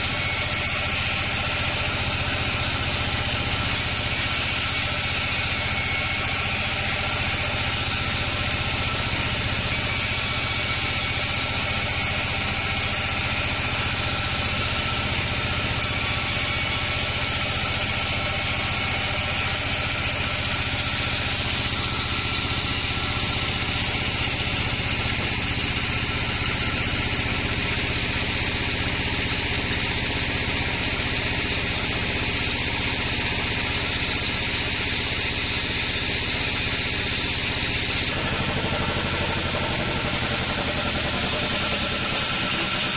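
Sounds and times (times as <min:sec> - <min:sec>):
band saw machine hum: 0:00.0 - 0:42.9.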